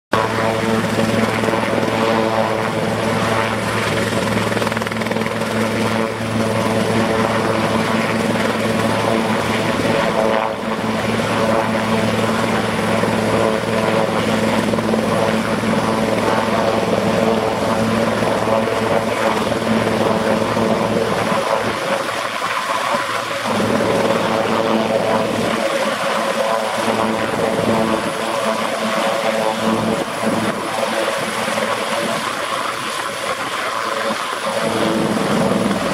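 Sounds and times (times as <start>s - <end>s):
helicopter turbine and rotors: 0.1s - 35.9s.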